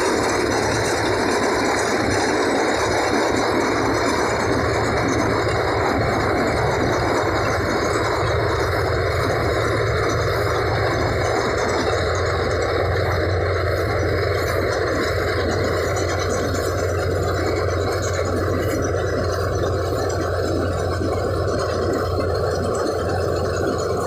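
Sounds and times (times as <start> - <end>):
harvester engine running: 0.0 - 24.0.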